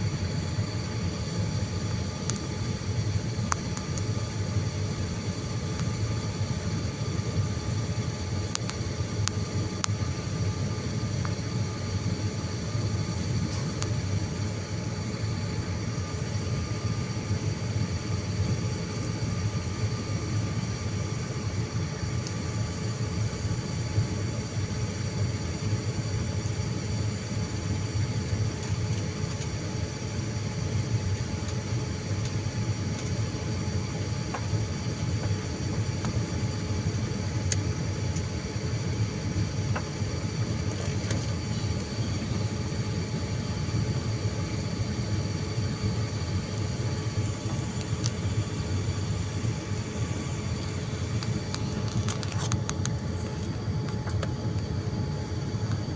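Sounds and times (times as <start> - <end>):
airliner cabin engine drone: 0.0 - 55.9
faint whining tones: 0.0 - 55.9.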